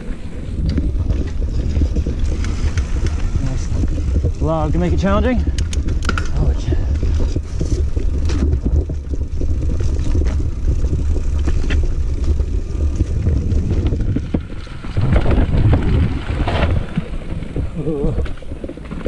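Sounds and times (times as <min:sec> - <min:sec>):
wind on microphone: 0:00.0 - 0:18.7
bike clicks and rattles: 0:00.0 - 0:19.0
bike tyre noise: 0:00.0 - 0:19.0.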